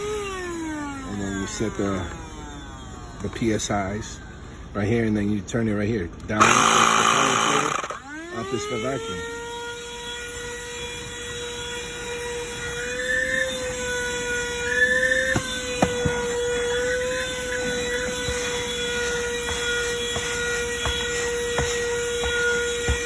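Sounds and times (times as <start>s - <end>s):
handheld vacuum motor whine: 0.0s - 5.3s, 6.2s - 23.0s.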